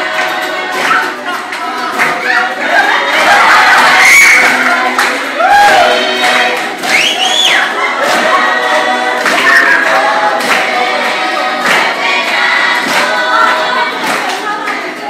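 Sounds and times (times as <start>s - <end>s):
sharp handclaps: 0.0s - 2.2s, 4.3s - 8.4s, 9.2s - 15.0s
group singing unaccompanied: 0.0s - 15.0s.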